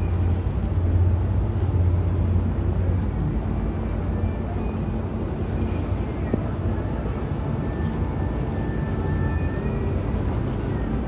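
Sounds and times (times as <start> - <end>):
broad noisy background: 0.0 - 11.0
ferry engines rumbling: 0.0 - 11.0.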